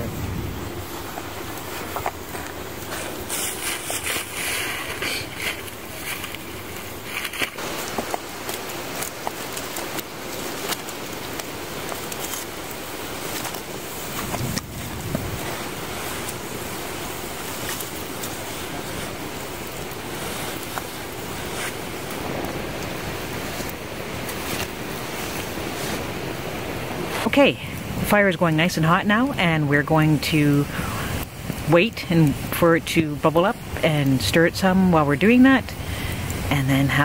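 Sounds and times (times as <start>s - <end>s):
campfire hissing and crackling: 0.0s - 37.0s.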